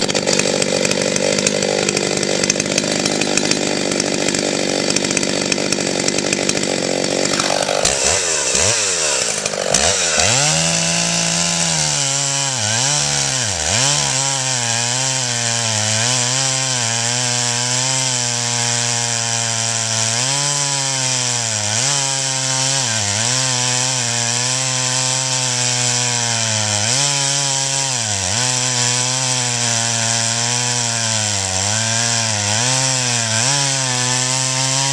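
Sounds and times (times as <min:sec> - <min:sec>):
chainsaw running: 0:00.0 - 0:34.9.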